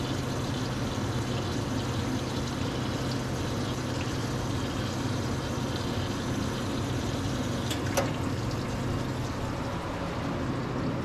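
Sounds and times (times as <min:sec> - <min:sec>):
machine hum: 0:00.0 - 0:11.0
water-like rushing of pumps: 0:00.0 - 0:11.0.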